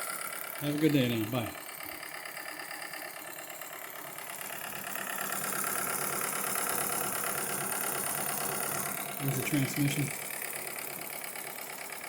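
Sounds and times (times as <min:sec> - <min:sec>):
toy steam engine chuffing: 0:00.0 - 0:12.0.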